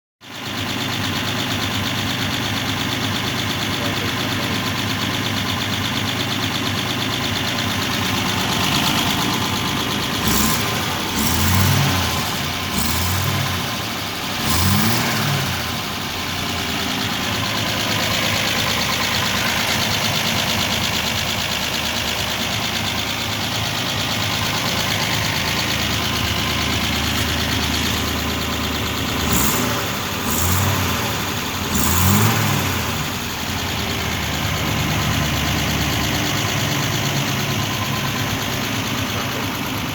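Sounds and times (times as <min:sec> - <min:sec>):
car engine idling and revving: 0:00.2 - 0:39.9.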